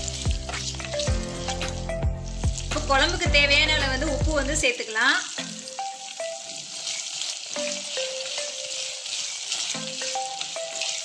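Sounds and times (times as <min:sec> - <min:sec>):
shallots and garlic sizzling in oil: 0:00.0 - 0:11.0.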